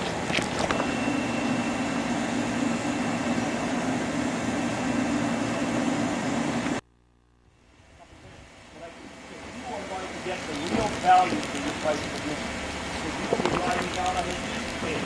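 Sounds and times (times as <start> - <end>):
machine running with low hum: 0.0 - 15.0.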